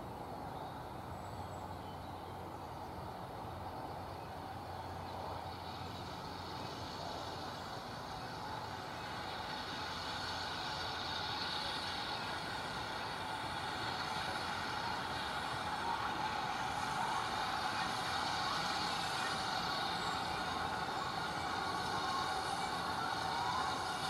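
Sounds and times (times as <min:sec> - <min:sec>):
steam locomotive hissing steam: 0:00.0 - 0:24.0.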